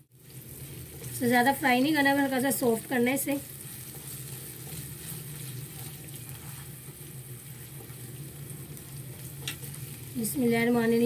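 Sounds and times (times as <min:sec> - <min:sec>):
spices sizzling in hot oil: 0:00.0 - 0:11.0
spatula stirring in pan: 0:00.1 - 0:11.0.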